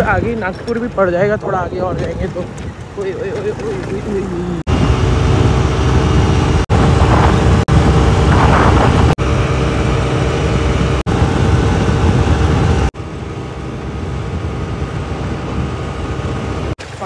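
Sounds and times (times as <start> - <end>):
wind rush on microphone: 0.0 - 3.4, 4.7 - 16.8
scooter engine droning: 2.0 - 16.8.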